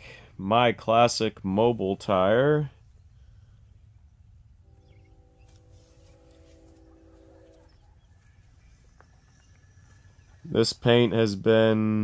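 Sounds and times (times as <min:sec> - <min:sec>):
distant steady multi-note tone: 0:01.5 - 0:11.5.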